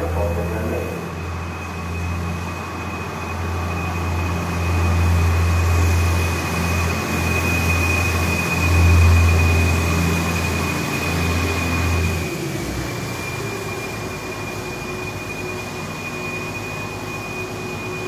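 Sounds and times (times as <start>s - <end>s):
diesel train engine drone: 0.0s - 18.0s
high whine: 0.0s - 18.0s.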